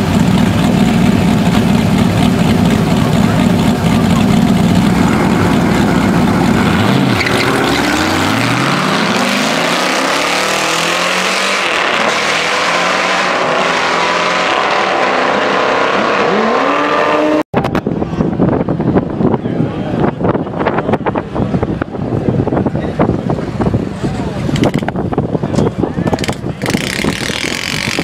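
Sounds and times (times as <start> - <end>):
car engines accelerating: 0.0 - 25.2, 26.0 - 28.0.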